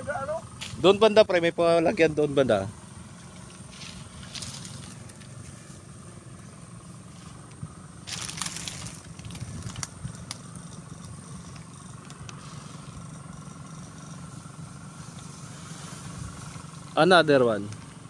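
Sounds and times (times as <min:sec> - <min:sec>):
low electrical buzz: 0:00.0 - 0:18.0
rustling through grass: 0:02.7 - 0:18.0.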